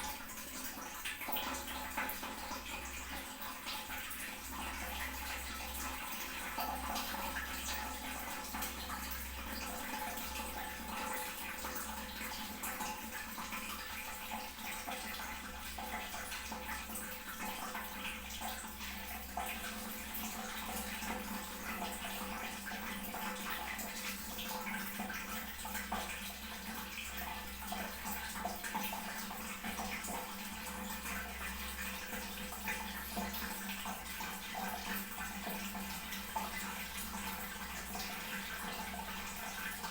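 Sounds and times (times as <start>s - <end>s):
water running into toilet tank: 0.0s - 39.9s.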